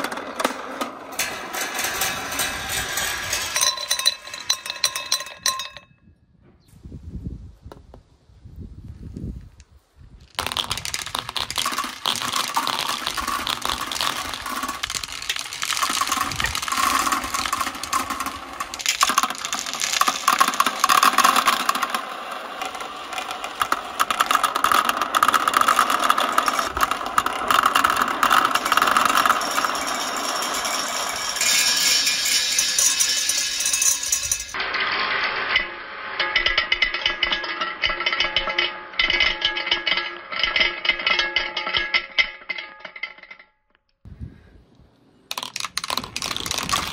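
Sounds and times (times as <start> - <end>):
marbles clattering through marble run: 0.0 - 5.8, 10.2 - 43.4, 45.3 - 46.9.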